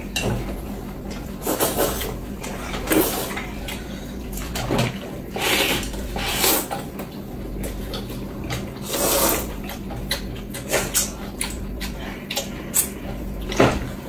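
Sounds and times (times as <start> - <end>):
people eating: 0.0 - 14.0.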